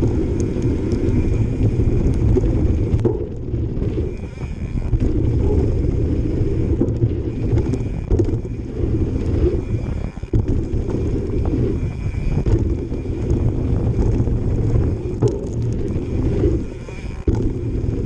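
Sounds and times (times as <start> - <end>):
bike chain rattling: 0.0 - 18.0
freehub buzzing: 0.0 - 18.0
tyres rumbling over dirt: 0.0 - 18.0
wind buffeting microphone: 0.0 - 18.0.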